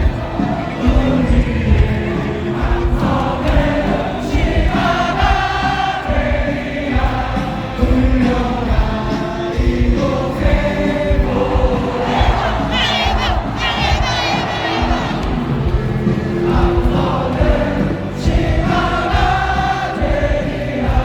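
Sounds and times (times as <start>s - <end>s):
low drum beat: 0.0s - 21.0s
voices singing in chorus: 0.0s - 21.0s.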